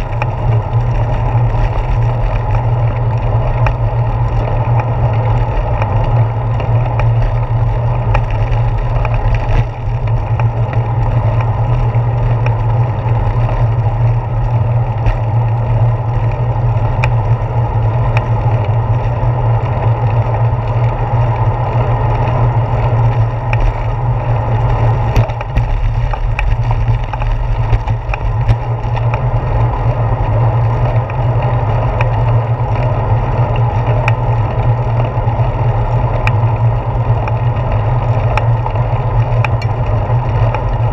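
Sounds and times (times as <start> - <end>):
small clicks and rattles: 0.0 - 40.9
wind and road noise from bicycle: 0.0 - 40.9.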